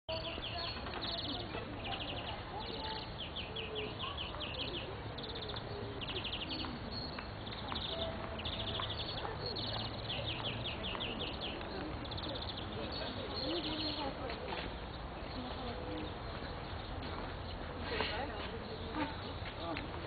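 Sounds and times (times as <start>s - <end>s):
songbirds chirping trills: 0.1s - 20.0s.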